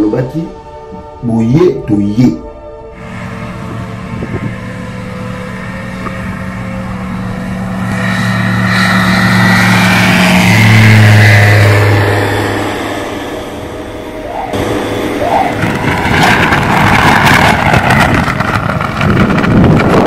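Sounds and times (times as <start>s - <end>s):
propeller aircraft passing: 2.7s - 20.0s.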